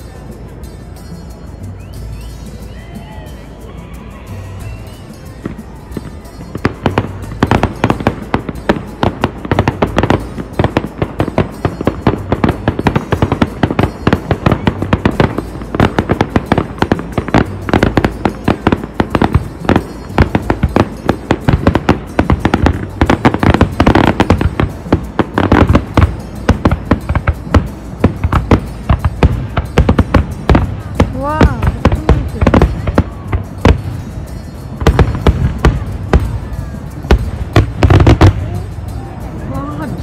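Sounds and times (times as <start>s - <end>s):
music playing: 0.0s - 40.0s
fireworks bangs and crackles: 4.3s - 40.0s.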